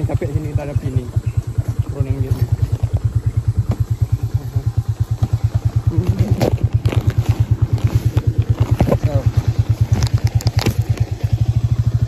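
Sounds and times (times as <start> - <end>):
bike clattering over rough ground: 0.0 - 11.7
motorcycle engine running: 0.0 - 12.0.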